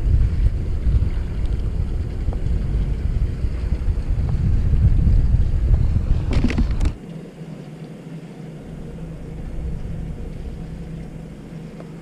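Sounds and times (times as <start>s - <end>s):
wind rumbling on microphone: 0.0s - 7.1s, 8.5s - 12.0s
low steady hum: 0.0s - 12.0s.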